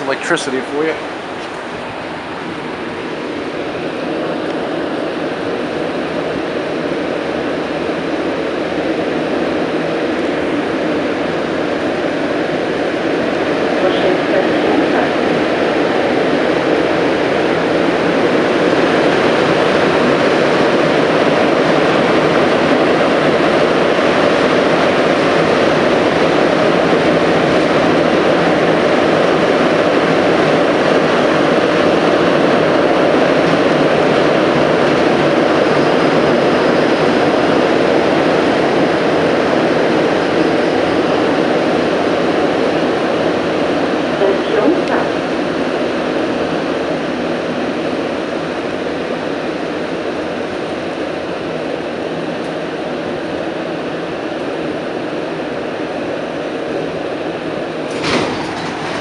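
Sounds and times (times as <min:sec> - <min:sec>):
metro train running in tunnel: 0:00.0 - 0:59.0.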